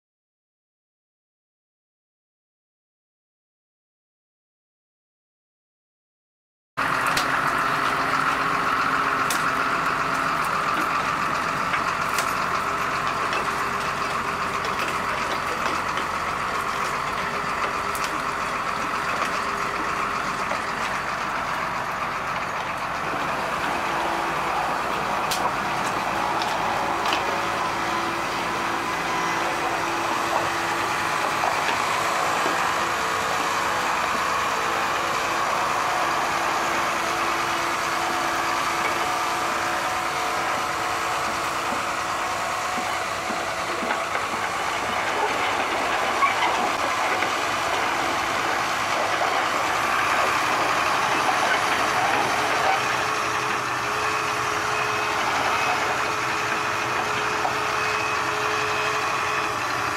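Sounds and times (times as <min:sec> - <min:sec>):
excavator diesel engine idling: 0:06.8 - 0:59.9.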